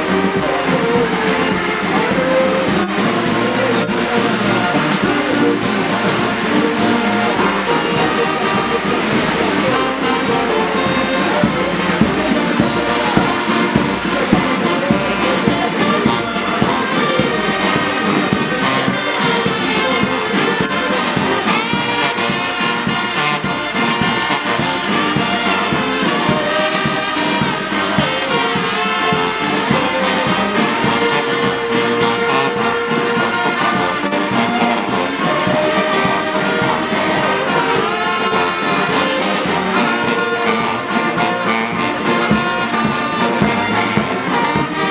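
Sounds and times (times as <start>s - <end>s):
brass band playing: 0.0s - 44.9s.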